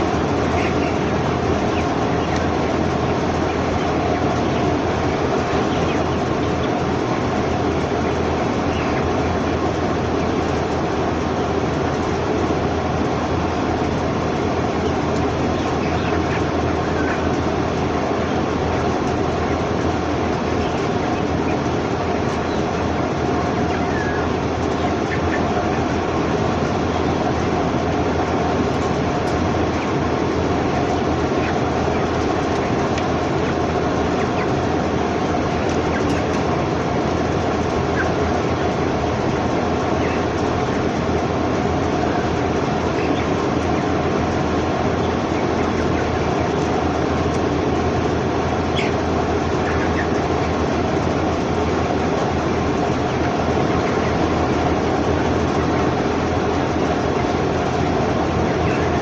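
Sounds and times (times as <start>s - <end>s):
murmur of chickens: 0.0s - 59.0s
ventilation fans rumbling: 0.0s - 59.0s.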